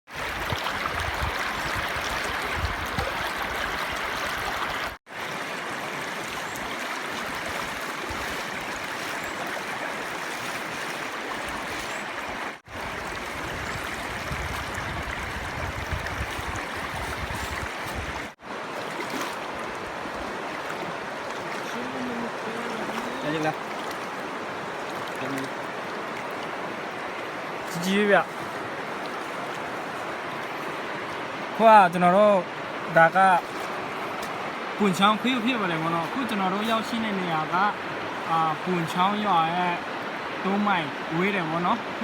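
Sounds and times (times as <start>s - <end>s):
flowing stream: 0.1s - 42.0s.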